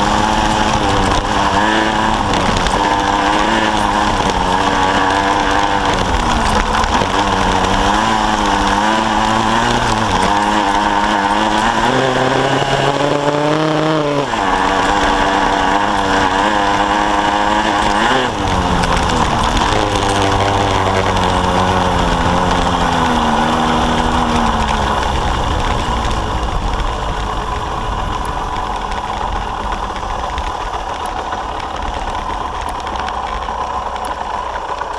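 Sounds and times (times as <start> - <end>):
two-stroke motorcycle engine revving: 0.0 - 34.9.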